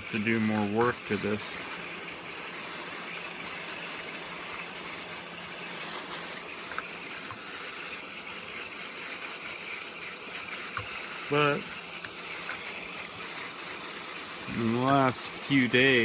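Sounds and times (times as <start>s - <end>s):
heat gun blowing: 0.0s - 16.0s.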